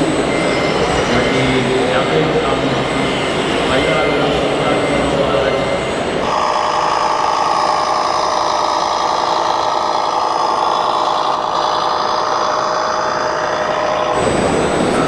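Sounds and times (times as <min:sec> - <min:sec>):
model car engine drone: 0:00.0 - 0:15.0.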